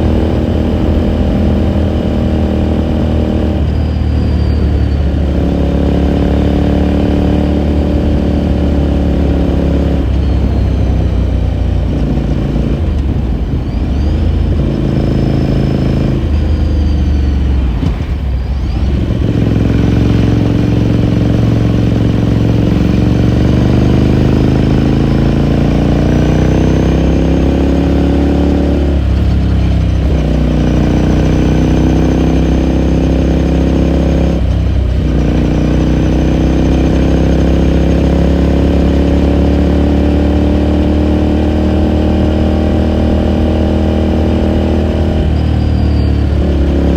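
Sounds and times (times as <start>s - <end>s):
motorcycle engine while riding: 0.0s - 46.9s.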